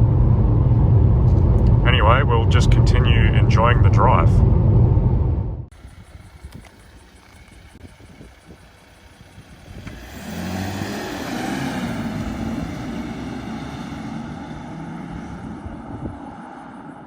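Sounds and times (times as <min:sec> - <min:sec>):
car engine revving under throttle: 0:00.0 - 0:16.8.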